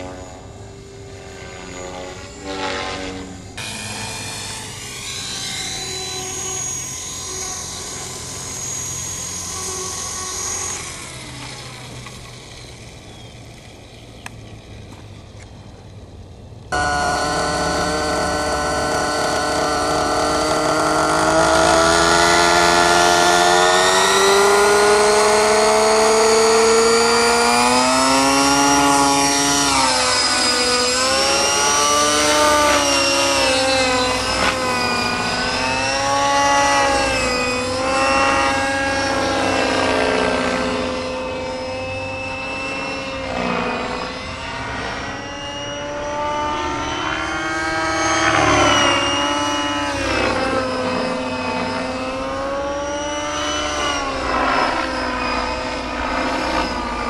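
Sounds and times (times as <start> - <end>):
model helicopter rotor whining: 0.0 - 57.0.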